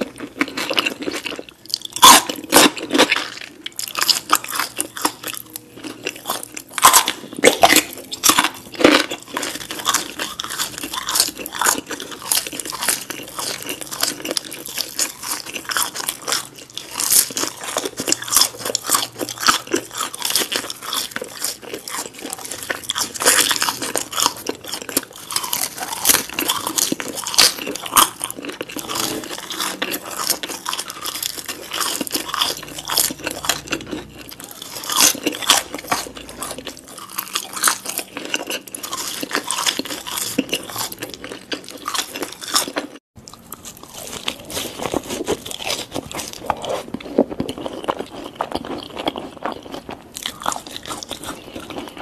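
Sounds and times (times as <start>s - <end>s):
chewing crunchy fries: 0.0s - 52.0s.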